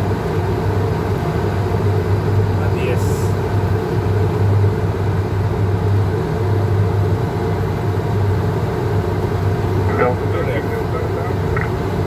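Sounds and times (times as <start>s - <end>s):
jet engines droning: 0.0s - 12.0s
steady low hum: 0.0s - 12.0s.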